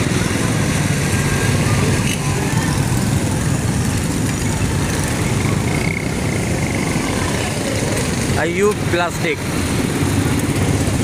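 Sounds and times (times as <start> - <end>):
motorcycle engines passing: 0.0 - 11.0.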